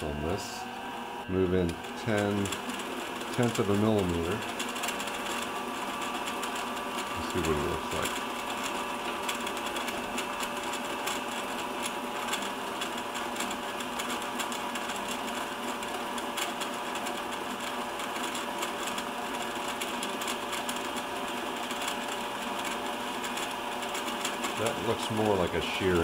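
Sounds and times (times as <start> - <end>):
lathe motor whirring: 0.0 - 26.0.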